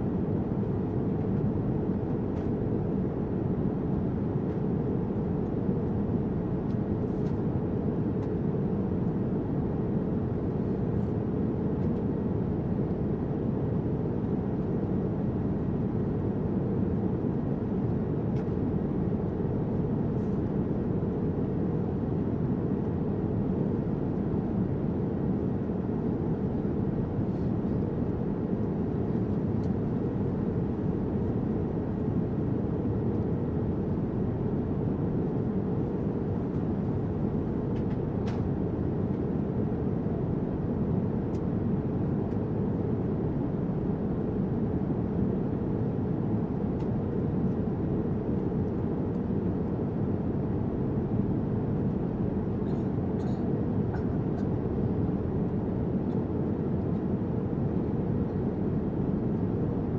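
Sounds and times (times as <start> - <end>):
engine and airflow rush: 0.0 - 59.9
faint steady hum: 0.0 - 59.9.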